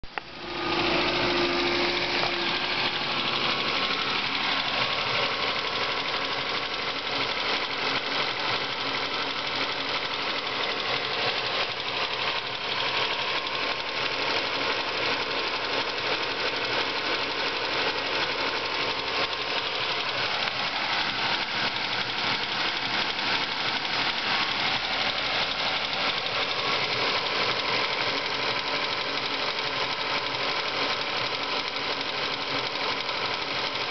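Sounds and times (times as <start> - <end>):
car engine running: 0.0 - 33.9
fast even engine ticking: 0.0 - 33.9.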